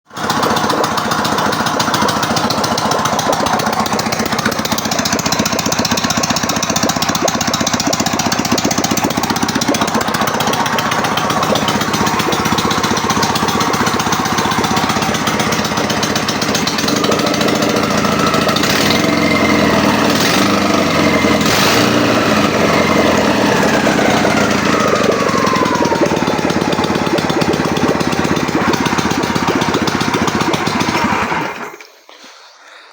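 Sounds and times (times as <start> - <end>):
motorcycle engine running: 0.1 - 31.8.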